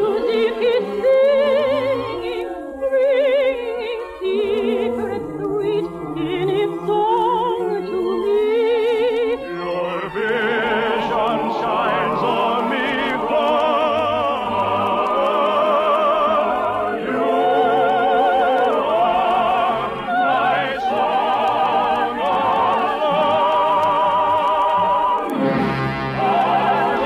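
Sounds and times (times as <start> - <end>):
operatic singing with vibrato: 0.0 - 27.0
orchestral accompaniment: 0.0 - 27.0.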